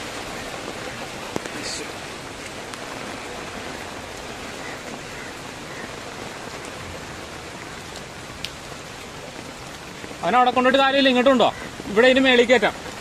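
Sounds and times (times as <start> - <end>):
rain falling on water: 0.0 - 13.0.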